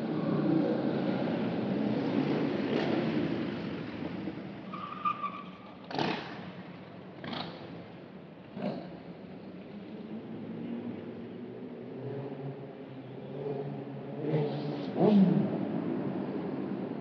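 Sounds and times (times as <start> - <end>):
car road and wind rumble: 0.0 - 17.0.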